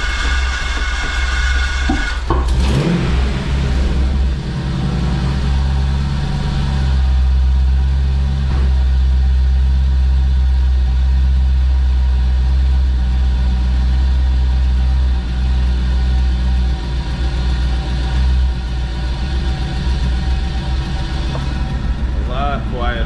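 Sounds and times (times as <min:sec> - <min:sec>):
engine idling with intake noise: 0:00.0 - 0:23.0.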